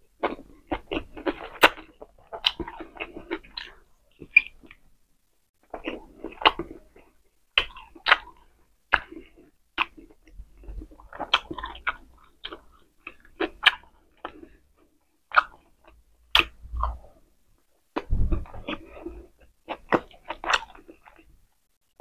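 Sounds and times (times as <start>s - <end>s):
person chewing food: 0.0s - 4.9s, 5.6s - 21.4s
mouth smacks and clicks: 0.2s - 4.8s, 5.6s - 14.6s, 15.3s - 17.1s, 17.9s - 21.3s.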